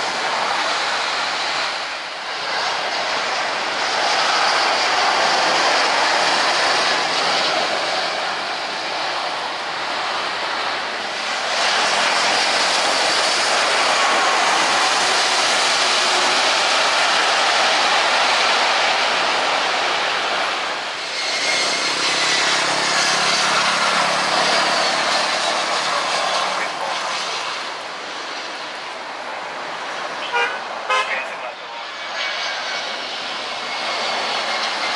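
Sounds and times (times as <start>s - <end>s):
jet airliner passing: 0.0s - 34.9s.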